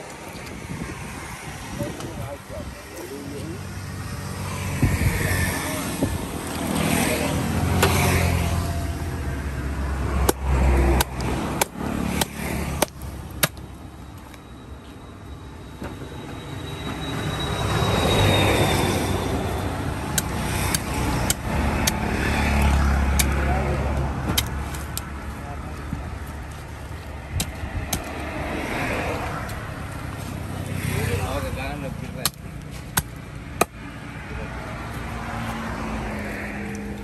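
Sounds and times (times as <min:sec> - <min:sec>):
road vehicles rumbling past: 0:00.0 - 0:37.0.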